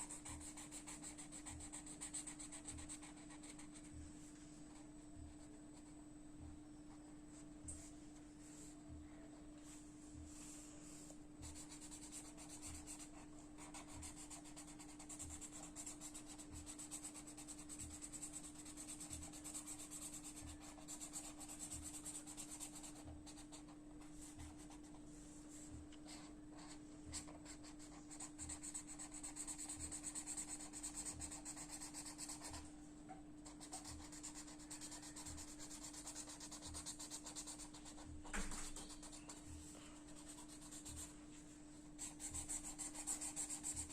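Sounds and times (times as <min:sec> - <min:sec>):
scratching on paper: 0:00.0 - 0:03.9, 0:10.9 - 0:32.7, 0:33.4 - 0:41.2, 0:42.0 - 0:43.9
steady low hum: 0:00.0 - 0:43.9.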